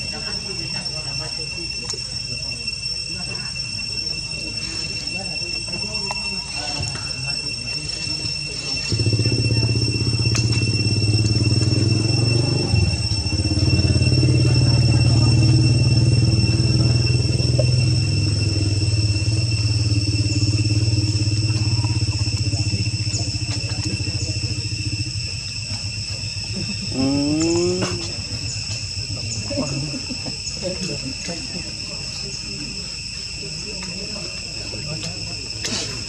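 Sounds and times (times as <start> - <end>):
engine throbbing: 0.0 - 36.0
high-pitched whine: 0.0 - 36.0.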